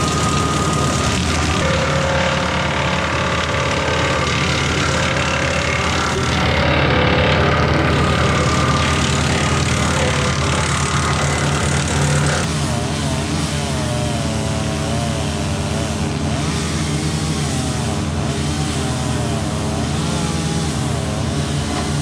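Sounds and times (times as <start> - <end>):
tractor diesel engine running: 0.0 - 22.0
wood chipper: 0.0 - 22.0.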